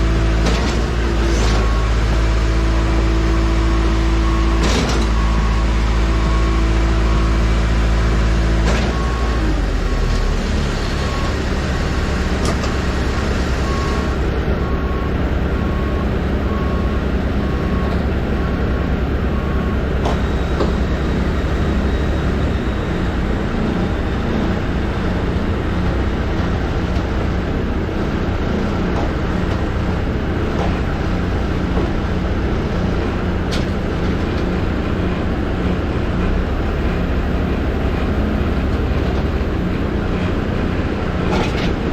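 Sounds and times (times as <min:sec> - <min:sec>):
machinery engine hum: 0:00.0 - 0:41.9.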